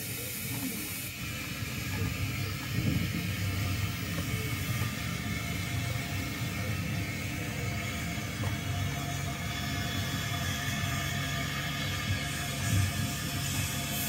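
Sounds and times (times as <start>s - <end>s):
model train rumbling on track: 0.0s - 14.0s.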